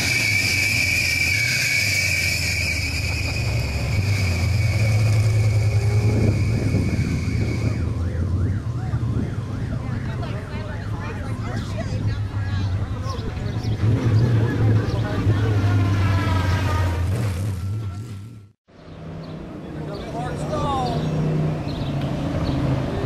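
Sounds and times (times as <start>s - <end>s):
truck engines running low: 0.0s - 23.0s.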